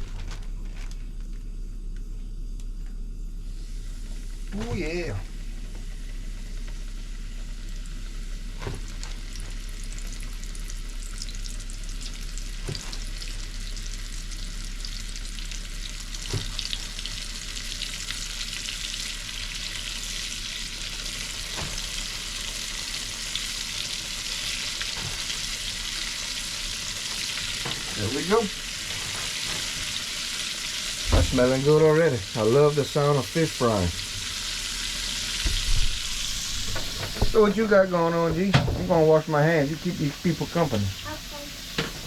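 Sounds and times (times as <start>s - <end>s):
fish frying in oil: 3.7s - 42.0s.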